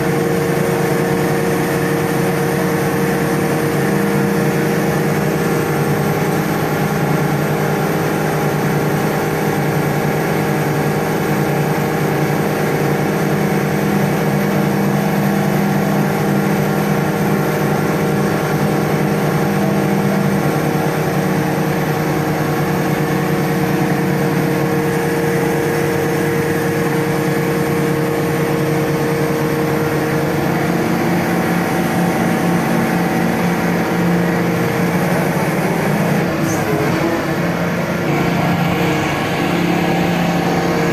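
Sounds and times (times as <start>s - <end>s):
crane engine running: 0.0s - 40.9s.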